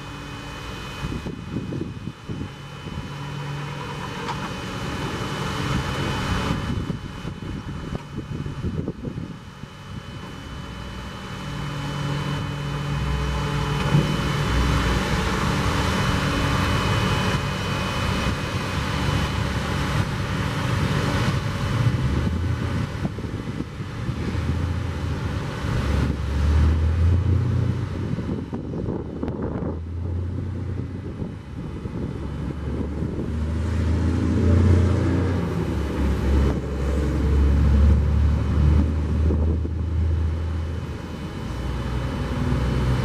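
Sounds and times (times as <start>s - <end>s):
diesel truck engine running: 0.0s - 43.0s
hydraulic high whine: 0.0s - 43.0s.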